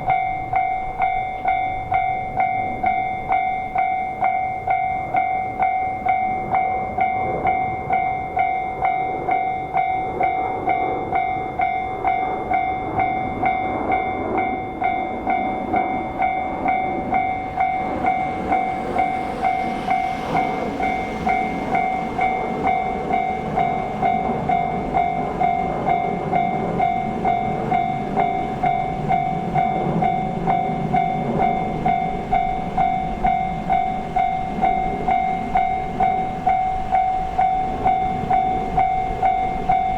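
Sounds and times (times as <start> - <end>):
level-crossing warning bell: 0.0 - 39.9
train rushing and rumbling: 0.0 - 39.9.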